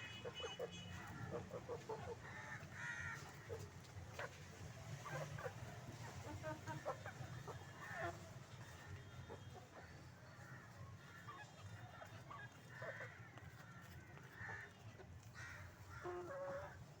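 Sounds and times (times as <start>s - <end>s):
chickens clucking: 1.0s - 10.0s, 10.7s - 17.0s.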